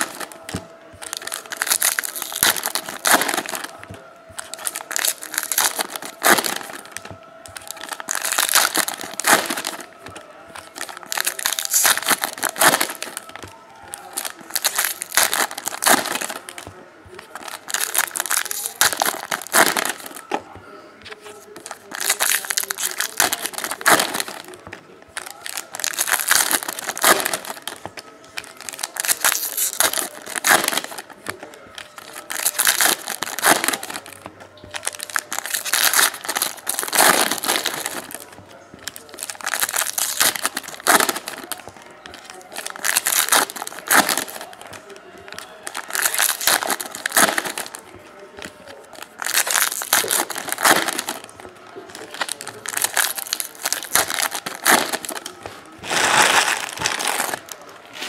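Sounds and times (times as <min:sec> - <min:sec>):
foil wrappers tearing and crinkling: 0:00.0 - 0:20.4, 0:21.2 - 0:58.0.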